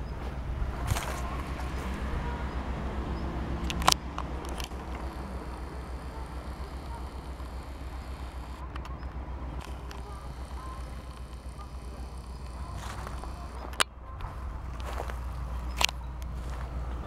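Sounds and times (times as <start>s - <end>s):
sharp clicks: 0.8s - 17.0s.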